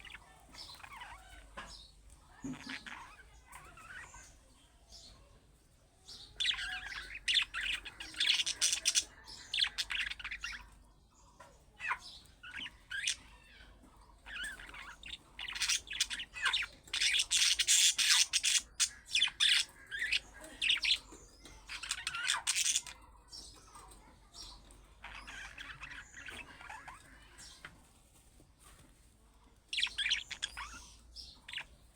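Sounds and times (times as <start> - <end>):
budgerigar warbling and chattering: 0.0 - 4.4, 6.1 - 10.8, 11.7 - 27.7, 29.7 - 31.9.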